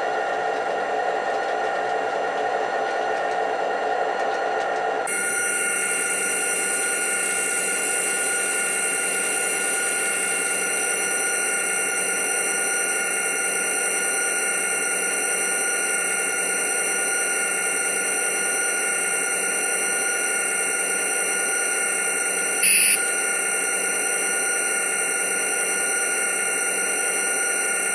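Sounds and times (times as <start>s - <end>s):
model train mechanical hum: 0.0s - 27.9s
whining tones: 4.7s - 27.9s.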